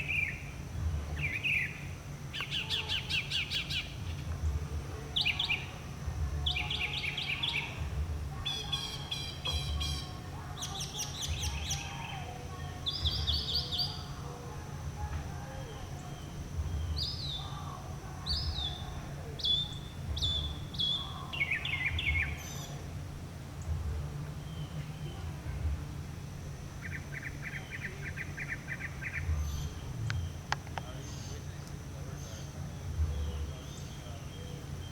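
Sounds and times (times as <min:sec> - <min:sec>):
mockingbird singing: 0:00.0 - 0:14.3, 0:15.6 - 0:22.9, 0:26.7 - 0:34.9.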